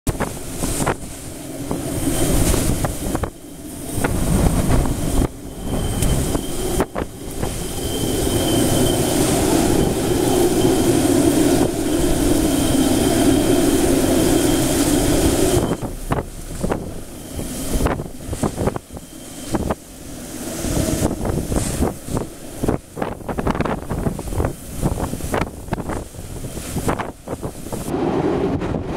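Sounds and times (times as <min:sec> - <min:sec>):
driving rain: 0:00.1 - 0:28.9
strong wind buffeting microphone: 0:00.1 - 0:28.9.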